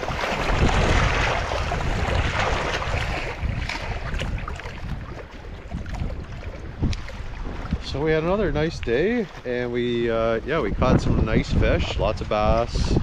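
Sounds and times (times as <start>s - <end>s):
waves washing on lake: 0.0s - 13.0s
wind buffeting microphone: 0.0s - 13.0s.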